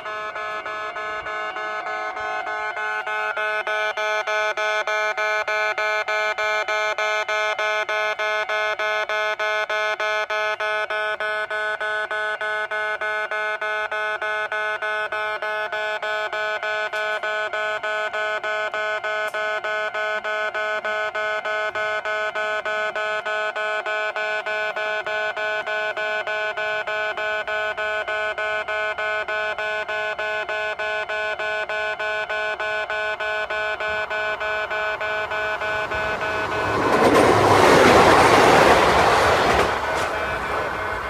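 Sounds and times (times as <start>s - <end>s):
level-crossing warning buzzer: 0.0s - 41.0s.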